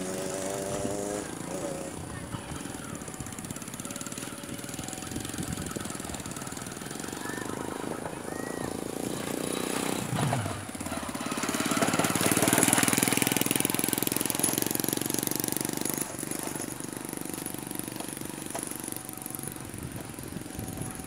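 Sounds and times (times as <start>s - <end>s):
small motorcycle engine putter: 0.0s - 21.0s.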